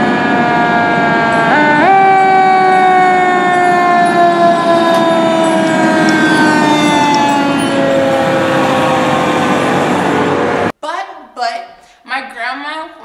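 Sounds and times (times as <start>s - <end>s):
fire engine siren wailing: 0.0s - 10.7s.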